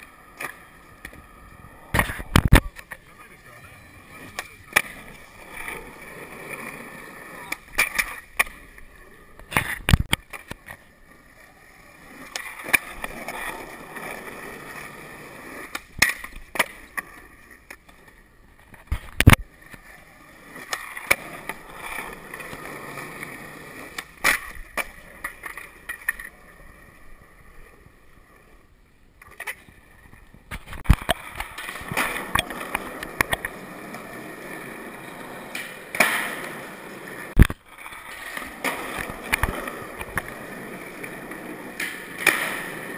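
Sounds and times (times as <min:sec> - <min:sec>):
skateboard clacking on ground: 0:00.0 - 0:28.6, 0:29.2 - 0:42.9
skateboard wheels rolling on concrete: 0:00.0 - 0:42.9.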